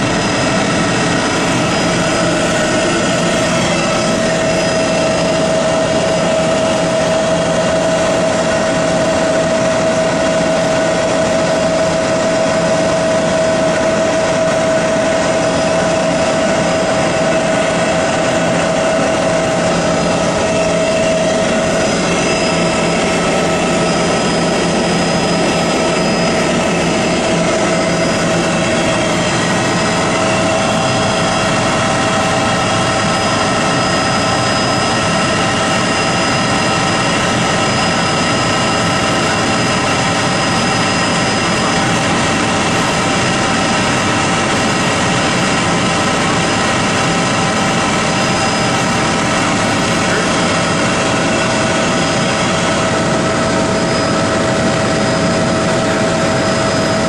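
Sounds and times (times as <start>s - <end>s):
propeller aircraft engine droning: 0.0s - 57.0s
steady whine: 0.0s - 57.0s.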